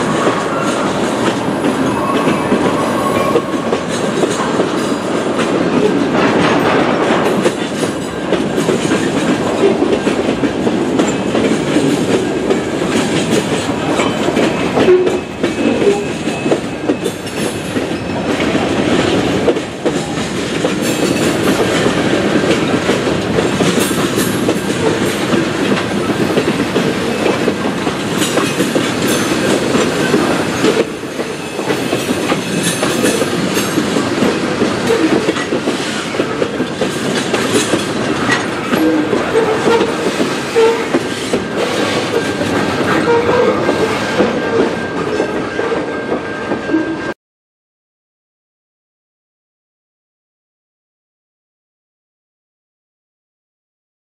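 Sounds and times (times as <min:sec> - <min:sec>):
train wheels rumbling on rails: 0:00.0 - 0:47.2.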